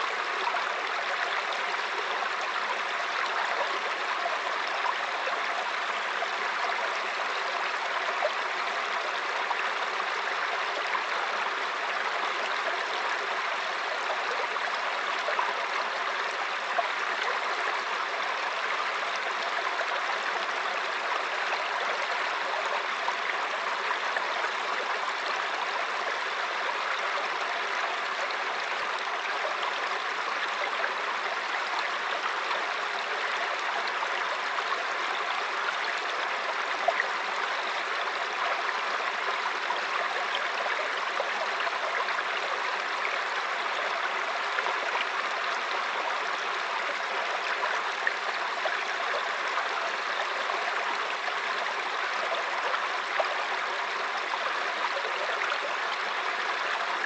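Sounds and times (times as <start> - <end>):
brook flowing over rocks: 0.0 - 57.0.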